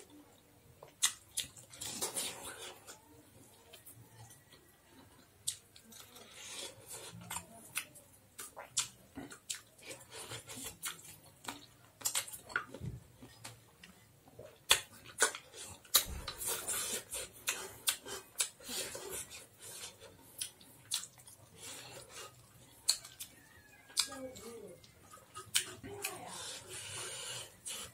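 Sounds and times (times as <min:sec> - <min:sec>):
wet chewing with lip smacks: 0:03.6 - 0:27.9.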